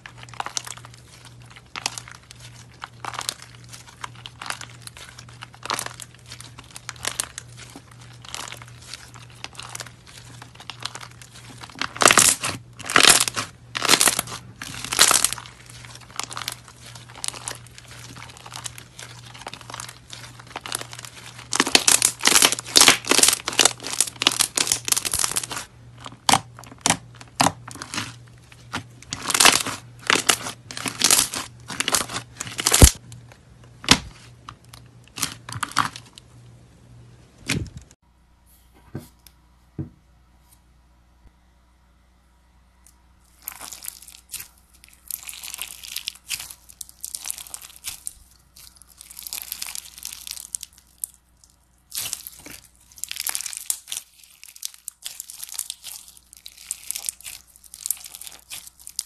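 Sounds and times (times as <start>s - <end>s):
slime crackling and popping: 0.0s - 33.1s, 33.8s - 36.2s, 43.3s - 59.0s.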